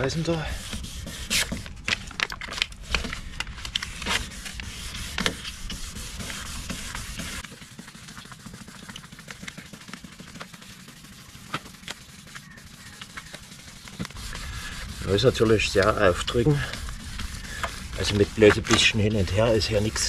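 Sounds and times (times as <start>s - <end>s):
sandpaper rubbing plastic: 0.0s - 20.0s.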